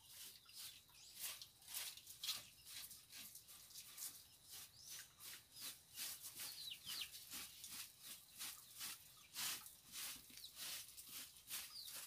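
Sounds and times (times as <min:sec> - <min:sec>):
bird chirping: 0:00.0 - 0:12.0
broom sweeping dirt floor: 0:00.0 - 0:12.0.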